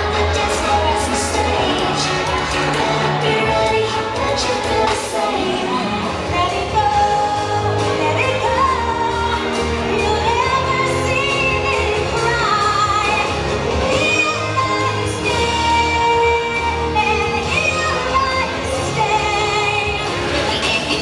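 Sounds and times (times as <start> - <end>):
pop song with sung vocals: 0.0 - 21.0.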